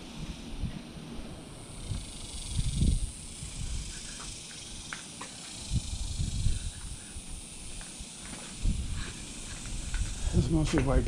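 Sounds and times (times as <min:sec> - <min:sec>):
wind buffeting microphone: 0:00.0 - 0:04.9, 0:05.6 - 0:11.0
steady high-pitched hiss: 0:00.0 - 0:11.0.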